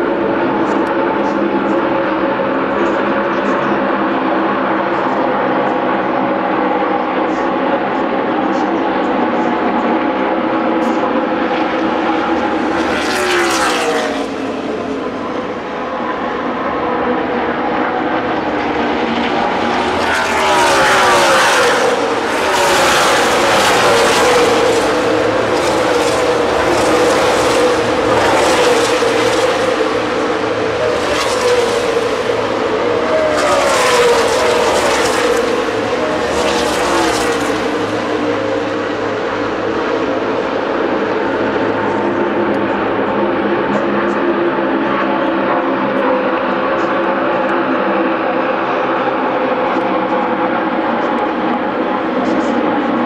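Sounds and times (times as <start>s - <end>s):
drone of engines: 0.0s - 53.0s
race cars passing at speed: 0.0s - 53.0s.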